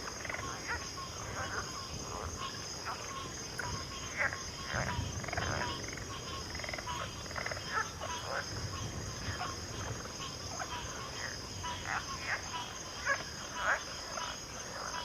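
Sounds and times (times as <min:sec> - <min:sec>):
frogs croaking and trilling: 0:00.0 - 0:15.0.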